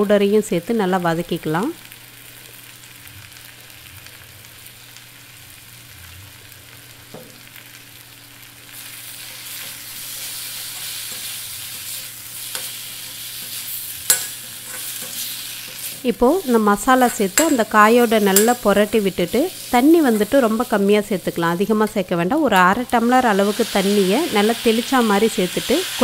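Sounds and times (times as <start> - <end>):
banana pieces sizzling in oil: 0.0 - 26.0.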